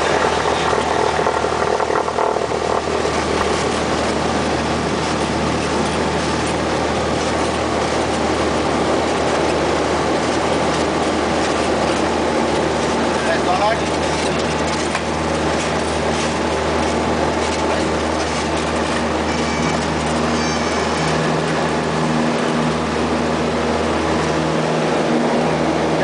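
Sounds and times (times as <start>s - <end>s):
plane engine and propeller drone: 0.0s - 26.0s.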